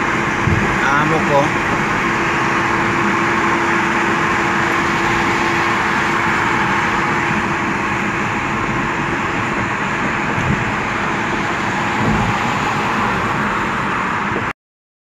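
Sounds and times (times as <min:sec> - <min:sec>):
car road and engine noise: 0:00.0 - 0:14.6.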